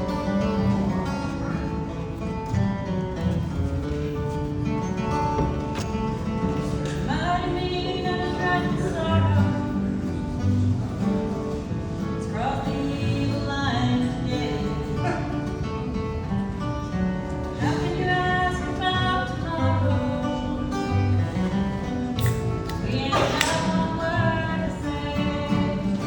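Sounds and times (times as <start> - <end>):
song with acoustic guitar: 0.0 - 26.0.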